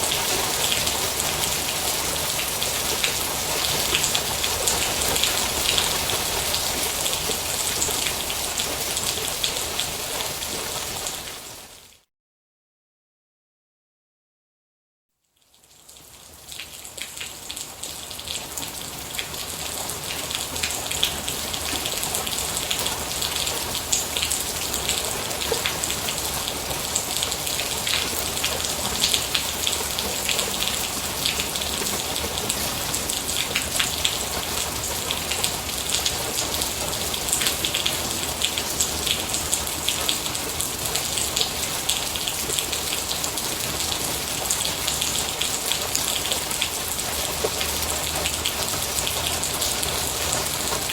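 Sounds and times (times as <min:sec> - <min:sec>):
rain drops pattering: 0:00.0 - 0:11.8, 0:15.6 - 0:50.9.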